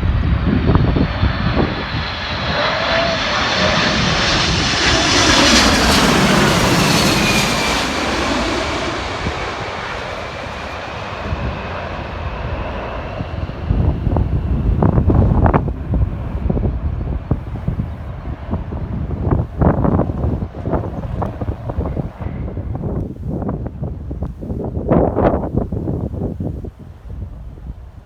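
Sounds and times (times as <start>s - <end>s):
jet engines passing: 0.0s - 28.0s
wind buffeting microphone: 0.0s - 28.0s.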